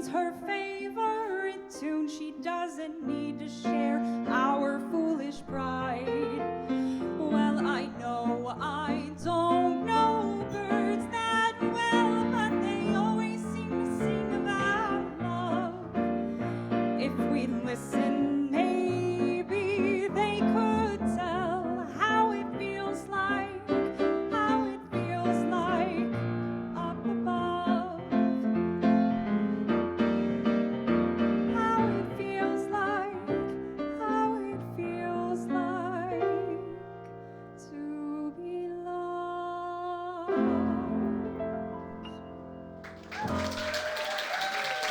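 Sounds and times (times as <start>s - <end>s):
piano chords: 0.0s - 43.6s.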